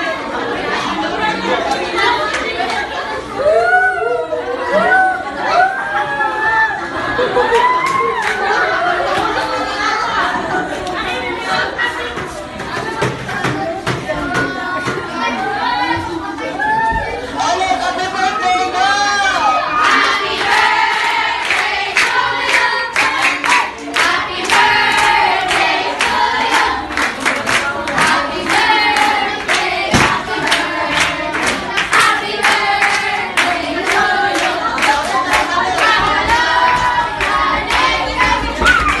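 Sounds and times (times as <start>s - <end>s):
group singing a birthday song: 0.0s - 6.1s, 8.4s - 16.5s, 17.3s - 39.0s.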